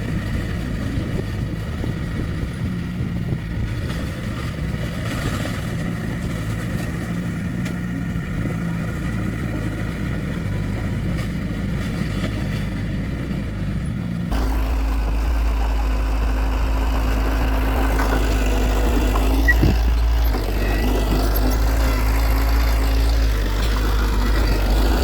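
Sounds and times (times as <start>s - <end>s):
deep engine hum: 0.0s - 25.0s
heavy diesel machinery running: 0.0s - 25.0s.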